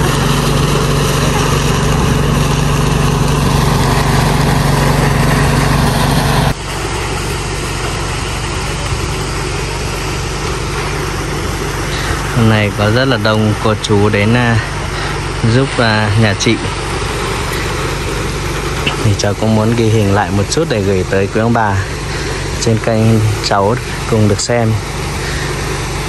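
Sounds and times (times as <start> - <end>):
constant rushing noise: 0.0 - 26.0
small thresher engine running: 0.0 - 26.0.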